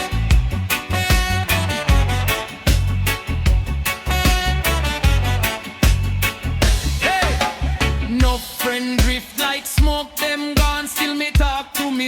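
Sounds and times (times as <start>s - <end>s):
reggae instrumental music: 0.0s - 12.0s.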